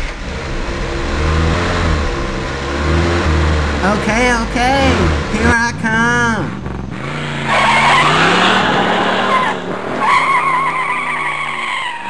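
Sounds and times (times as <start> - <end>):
car engine running: 0.0 - 11.7
car tyres squealing: 0.0 - 12.0.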